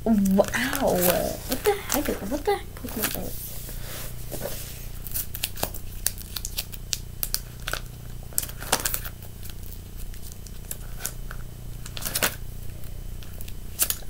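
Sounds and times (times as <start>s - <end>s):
low steady hum: 0.0s - 14.0s
plastic sleeves crinkling: 0.1s - 14.0s.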